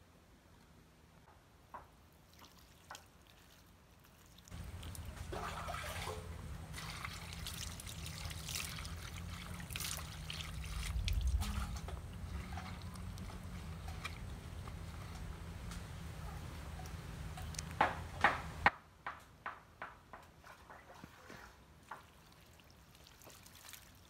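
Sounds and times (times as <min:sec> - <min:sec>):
water splashing and trickling: 0:01.8 - 0:18.6, 0:20.9 - 0:24.0.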